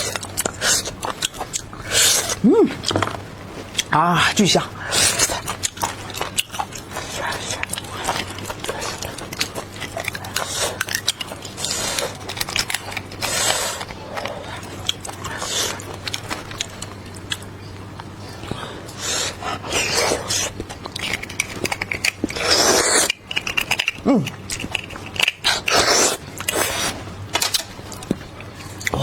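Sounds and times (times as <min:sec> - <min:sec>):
chewing and biting with wet smacks: 0:00.0 - 0:03.0, 0:05.0 - 0:26.9.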